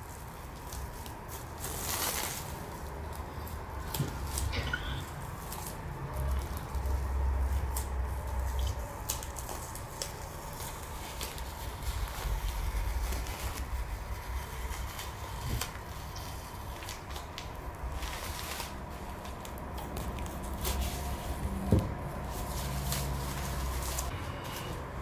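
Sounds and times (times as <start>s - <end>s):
masking tape peeling and crackling: 0.1s - 24.9s.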